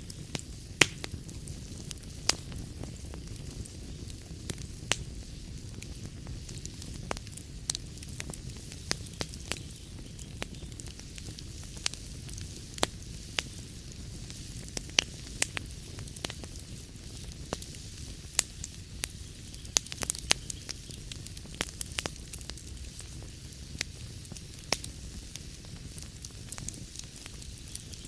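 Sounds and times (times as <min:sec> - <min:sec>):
burning logs crackling and popping: 0:00.0 - 0:28.0
fire flames rumbling: 0:00.0 - 0:28.0.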